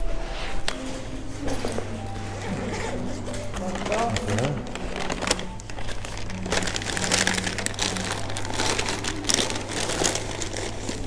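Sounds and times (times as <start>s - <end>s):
paper bag crinkling: 0.8s - 11.0s.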